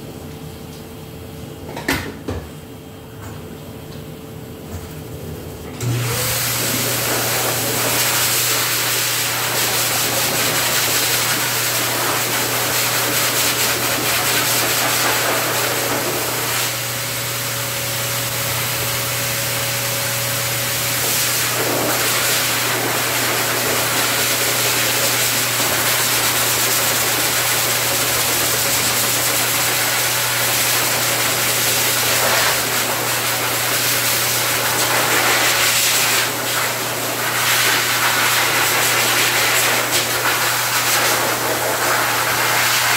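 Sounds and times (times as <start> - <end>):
dryer motor hum: 0.0 - 42.9
blow dryer air rushing: 5.7 - 42.9.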